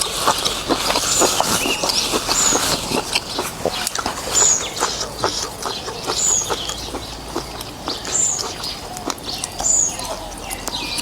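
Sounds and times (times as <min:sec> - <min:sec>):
mouth chewing noodles: 0:00.0 - 0:11.0.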